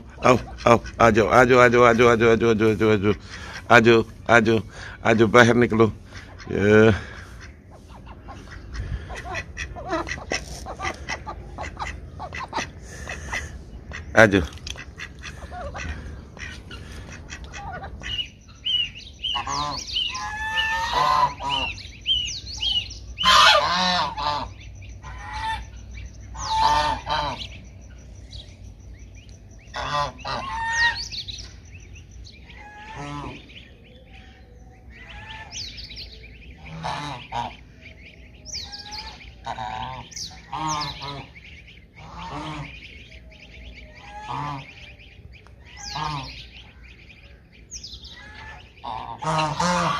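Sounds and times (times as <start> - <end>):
geese honking: 0.0 - 28.5, 29.2 - 49.9
goslings peeping: 0.0 - 49.9.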